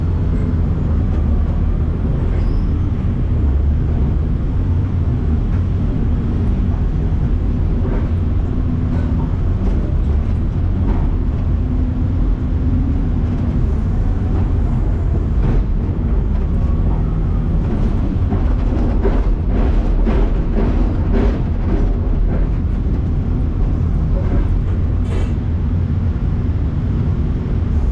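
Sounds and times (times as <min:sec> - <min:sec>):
low engine rumble: 0:00.0 - 0:27.9
machinery knocks and clanks: 0:00.2 - 0:25.6.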